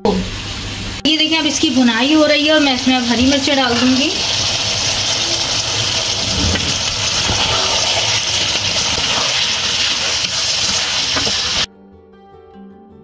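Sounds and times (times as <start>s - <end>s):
curry sizzling in a pot: 0.2s - 11.7s.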